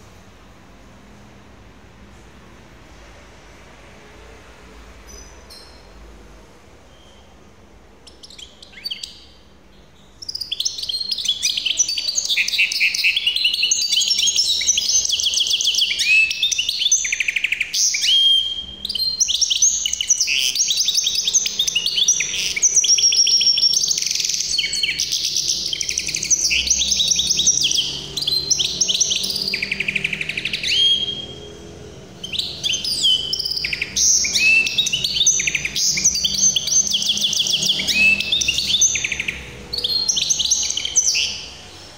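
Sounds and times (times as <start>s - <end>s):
finch singing rapid trills: 8.0s - 41.9s.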